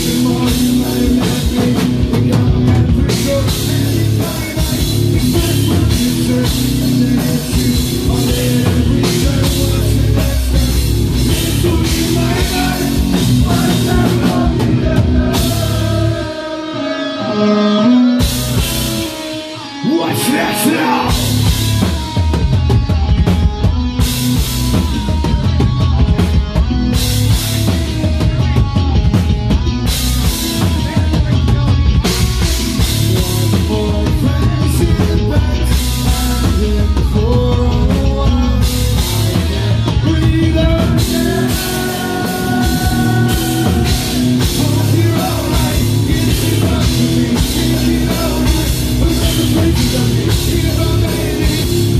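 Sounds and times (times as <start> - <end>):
drum kit with crashing cymbals: 0.0 - 16.7, 18.2 - 19.6, 20.2 - 51.9
singer's vocals: 0.0 - 22.4, 30.0 - 51.9
bass: 0.0 - 51.9
distorted guitar: 0.0 - 51.9.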